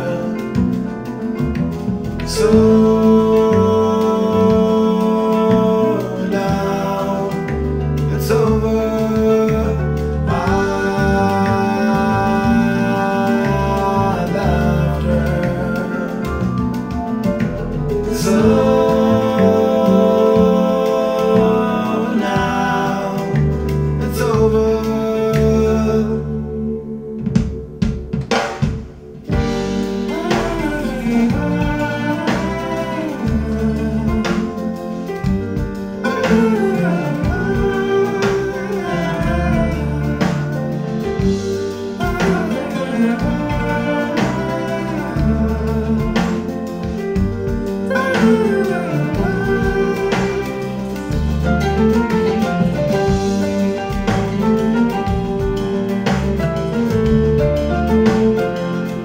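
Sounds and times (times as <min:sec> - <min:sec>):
instrumental music over loudspeakers: 0:00.0 - 0:59.0.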